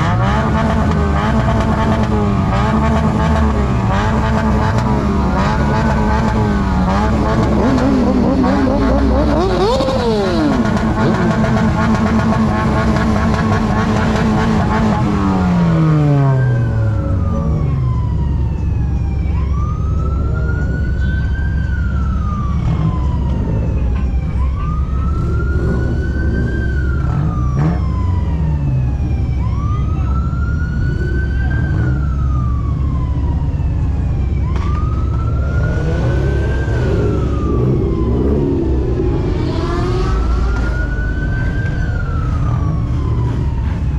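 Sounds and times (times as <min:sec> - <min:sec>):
vehicle engine at high revs: 0:00.0 - 0:18.4, 0:24.9 - 0:33.4, 0:34.3 - 0:43.9
siren wailing: 0:00.0 - 0:43.9.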